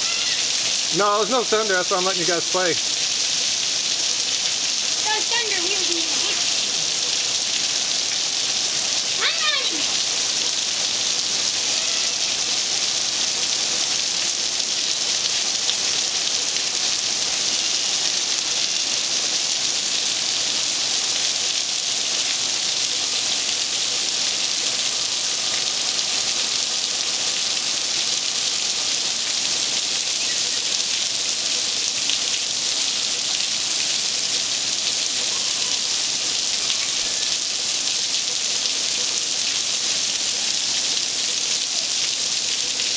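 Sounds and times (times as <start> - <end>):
heavy rain on grass and pavement: 0.0 - 42.9.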